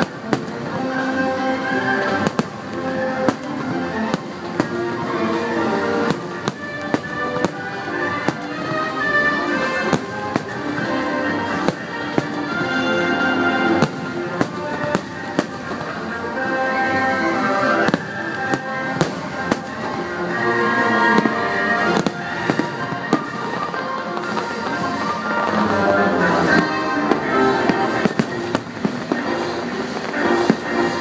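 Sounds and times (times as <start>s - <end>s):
fireworks bangs: 0.0s - 31.0s
loud music: 0.0s - 31.0s.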